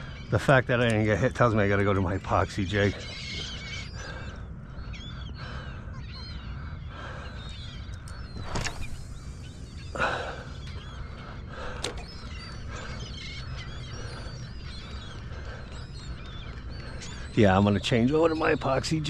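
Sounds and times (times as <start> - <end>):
flock of birds calling: 0.0 - 19.0
wind: 0.0 - 19.0.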